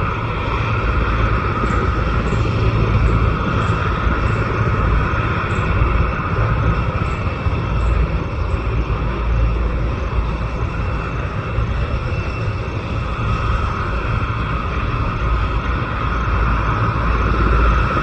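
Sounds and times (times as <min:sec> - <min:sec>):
helicopter running: 0:00.0 - 0:18.0.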